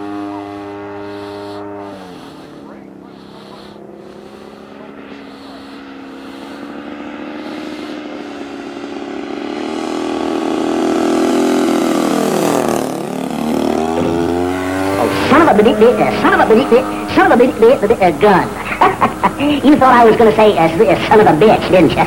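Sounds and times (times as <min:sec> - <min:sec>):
model plane engine and propeller: 0:00.0 - 0:22.0.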